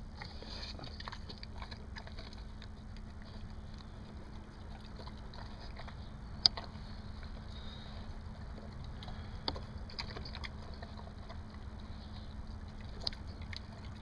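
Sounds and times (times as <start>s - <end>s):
dog eating from metal bowl: 0.0s - 14.0s
steady low rumble: 0.0s - 14.0s.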